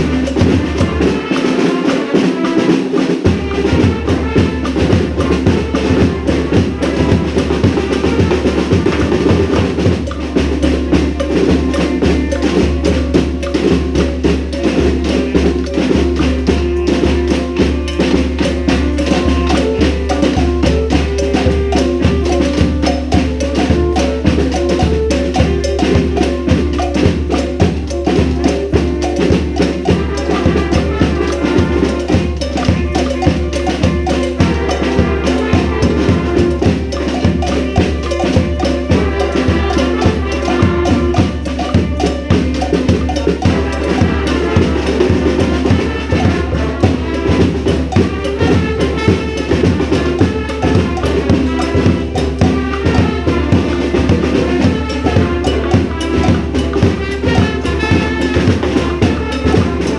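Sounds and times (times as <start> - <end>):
brass band playing salsa: 0.0 - 59.9
percussion beat: 0.0 - 59.9.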